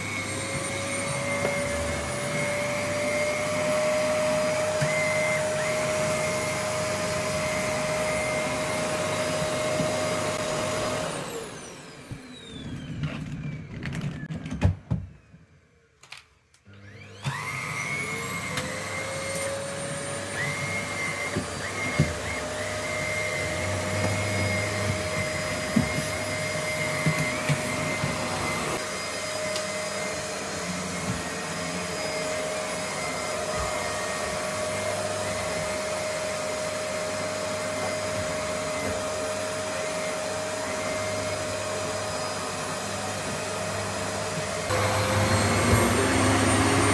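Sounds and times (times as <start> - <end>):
vacuum cleaner motor whine: 0.0 - 46.9.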